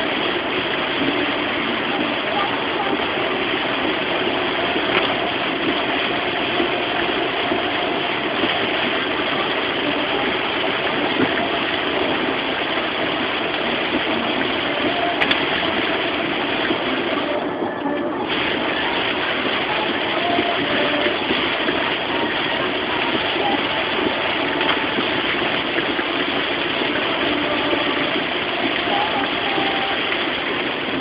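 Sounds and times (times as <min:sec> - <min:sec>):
heavy rain: 0:00.0 - 0:31.0
tyres on wet road: 0:00.0 - 0:31.0.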